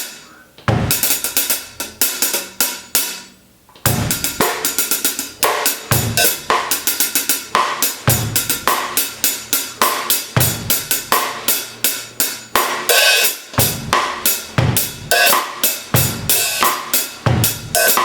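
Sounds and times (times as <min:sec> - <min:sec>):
snare drum: 0:00.0 - 0:11.8, 0:12.6 - 0:18.0
hi-hat strokes: 0:00.0 - 0:18.0
bass drum: 0:00.6 - 0:02.9, 0:03.8 - 0:12.9, 0:13.6 - 0:18.0.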